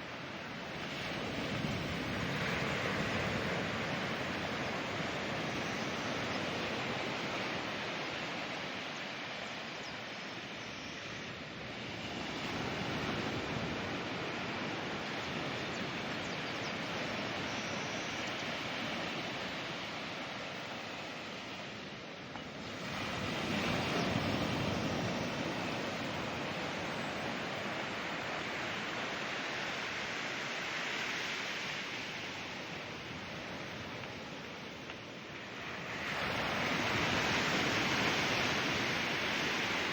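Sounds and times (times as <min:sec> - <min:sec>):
ocean surf on beach: 0:00.0 - 0:39.9.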